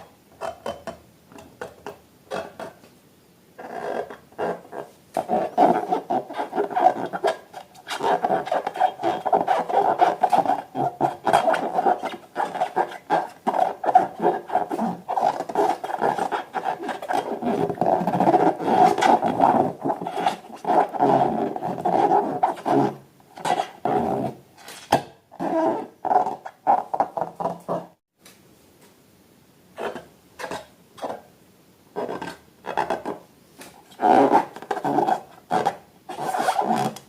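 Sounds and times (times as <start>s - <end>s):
rubber rubbing and squeaking: 0.0s - 2.8s, 3.6s - 28.0s, 29.8s - 31.2s, 31.9s - 37.0s.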